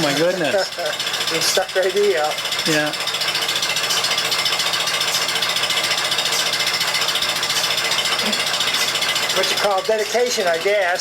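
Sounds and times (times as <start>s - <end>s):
barn machinery rattling: 0.0s - 11.0s.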